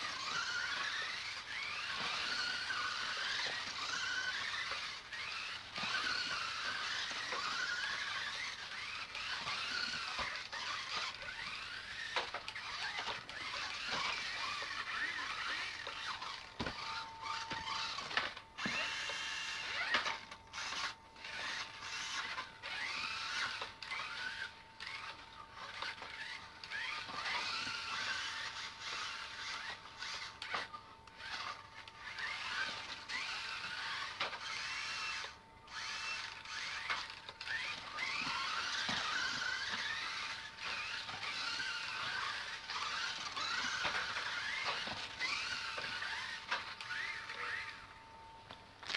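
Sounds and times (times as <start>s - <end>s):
small electric motors whining: 0.0s - 48.9s.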